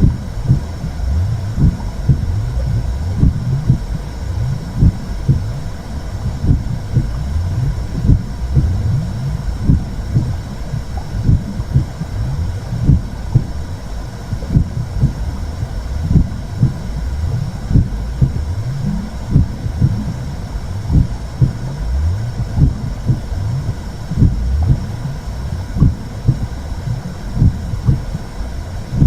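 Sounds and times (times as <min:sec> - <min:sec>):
heartbeat-like thumps: 0:00.0 - 0:29.0
muffled whooshing rumble: 0:00.0 - 0:29.0.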